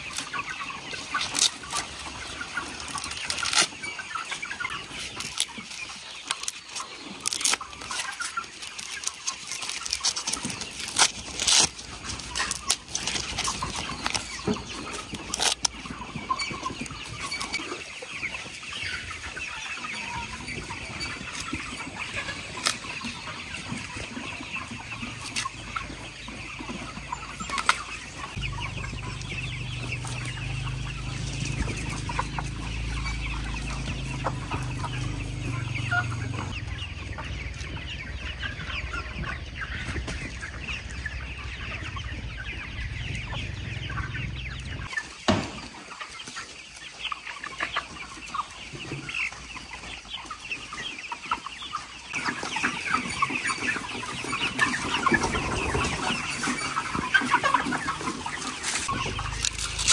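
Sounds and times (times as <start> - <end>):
hens clucking: 0.0 - 59.9.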